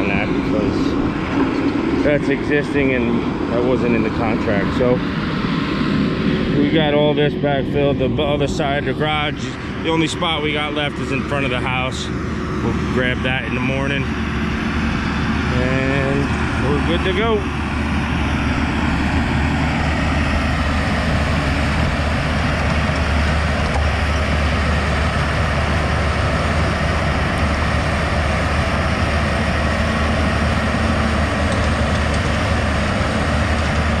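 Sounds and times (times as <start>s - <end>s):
dozer diesel engine running: 0.0s - 34.0s.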